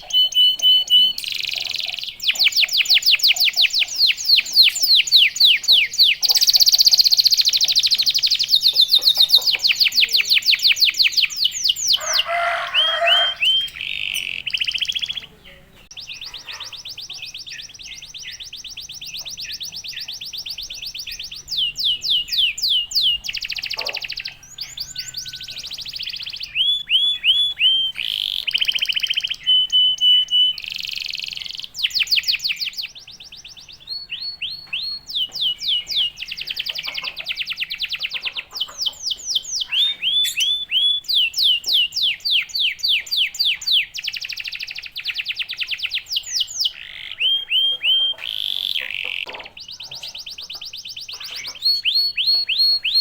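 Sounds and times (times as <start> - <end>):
canary singing: 0.0 - 53.0.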